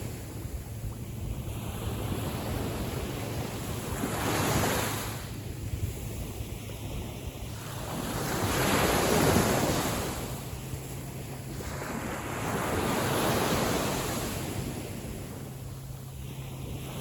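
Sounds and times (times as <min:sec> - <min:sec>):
small waves washing in: 0:00.0 - 0:17.0
wind rumbling on microphone: 0:00.0 - 0:17.0.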